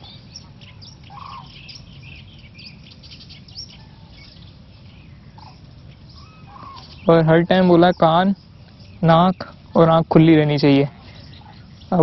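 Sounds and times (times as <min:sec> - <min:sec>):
birds chirping: 0:00.0 - 0:12.0
lower bird call: 0:00.0 - 0:12.0.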